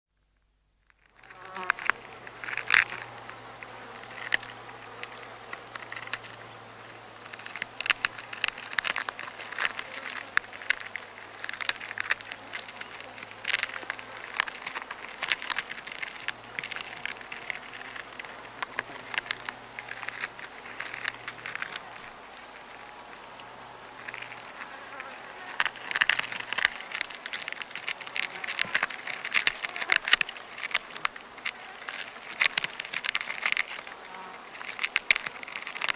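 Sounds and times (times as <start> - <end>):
tiny clicks and ticks: 0.8 - 35.9
paper rustling: 0.9 - 35.9.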